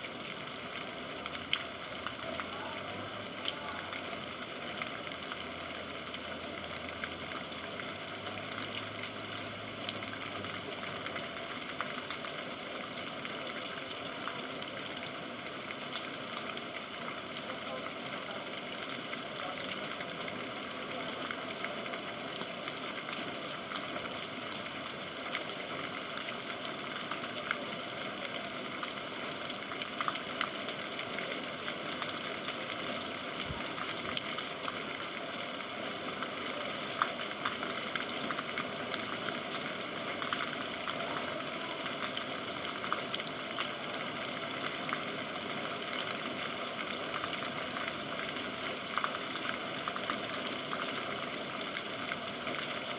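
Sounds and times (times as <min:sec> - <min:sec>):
raindrops ticking on hard surfaces: 0:00.0 - 0:52.9
steady rain hiss: 0:00.0 - 0:52.9.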